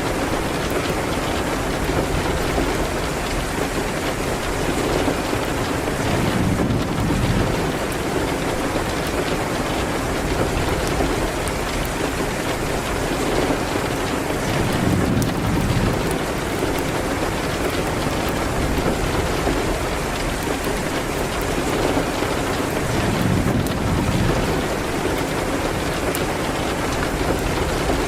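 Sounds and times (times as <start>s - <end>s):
rain on a window: 0.0s - 28.0s.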